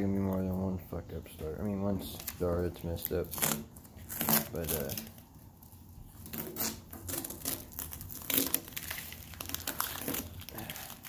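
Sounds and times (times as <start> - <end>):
masking tape peeling and tearing: 2.0 - 11.0.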